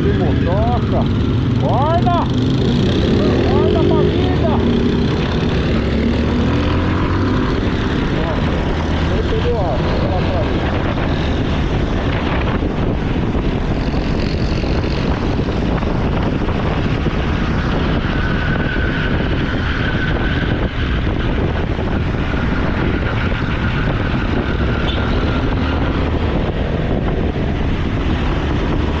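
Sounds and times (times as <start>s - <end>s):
wind rush over microphone: 0.0s - 29.0s.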